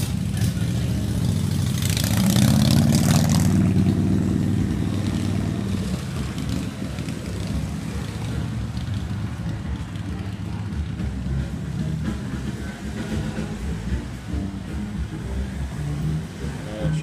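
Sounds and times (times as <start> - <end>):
traffic noise surge: 0.0 - 17.0
vehicle engine running: 0.0 - 17.0.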